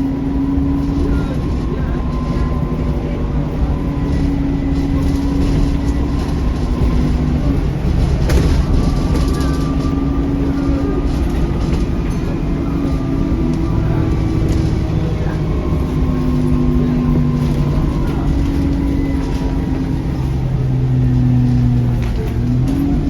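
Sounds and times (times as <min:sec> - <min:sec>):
bus engine rumble and whine: 0:00.0 - 0:23.0.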